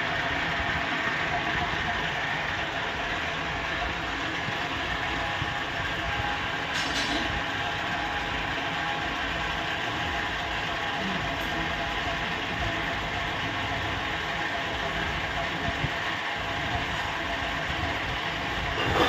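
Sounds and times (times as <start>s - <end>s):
metal lathe droning with faint whine: 0.0s - 19.0s.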